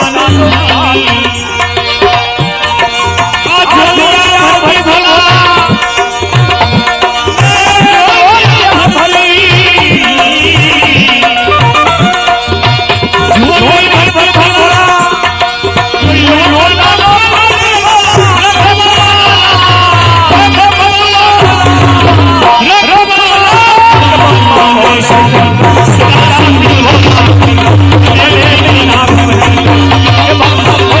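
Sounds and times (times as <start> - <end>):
tabla rhythm: 0.0 - 31.0.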